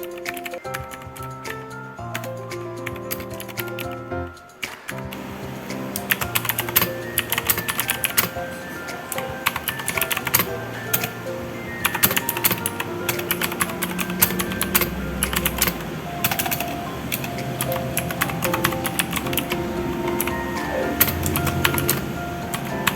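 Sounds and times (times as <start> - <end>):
mechanical keyboard typing: 0.0 - 5.3, 6.0 - 11.2, 11.8 - 22.9
background music: 0.0 - 22.9.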